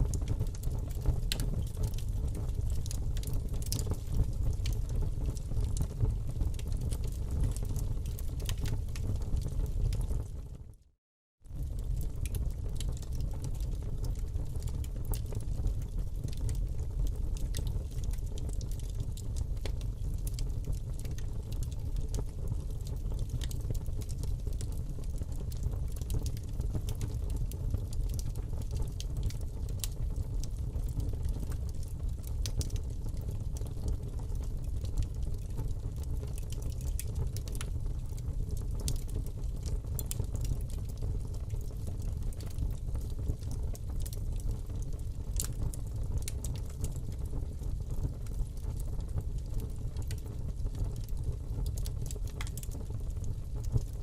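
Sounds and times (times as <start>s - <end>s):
fire crackling in a fireplace: 0.0s - 54.0s.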